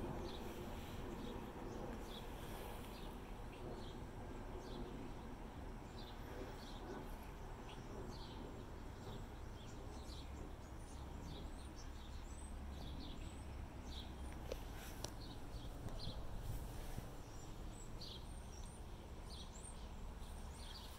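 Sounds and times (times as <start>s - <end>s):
small birds chirping: 0.0s - 20.9s
steady low rumble: 0.0s - 20.9s.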